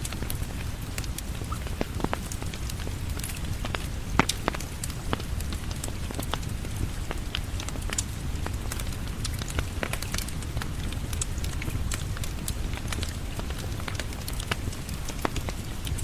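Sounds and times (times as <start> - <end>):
steady rain: 0.0 - 16.0
wood fire crackling: 0.0 - 16.0.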